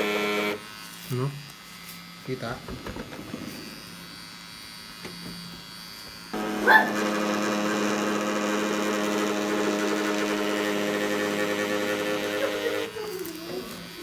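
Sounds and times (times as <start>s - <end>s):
tattoo pen motor buzzing: 0.0s - 14.0s.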